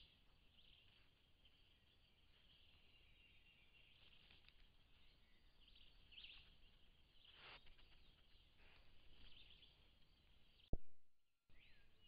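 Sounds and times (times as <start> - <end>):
wild birds chirping: 0.0 - 10.7, 11.5 - 12.0.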